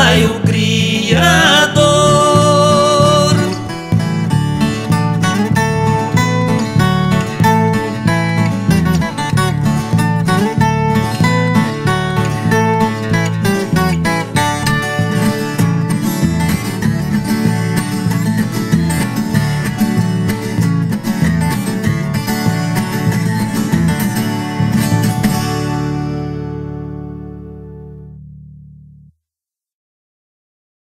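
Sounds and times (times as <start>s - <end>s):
plucked guitar-like strings: 0.0s - 29.1s.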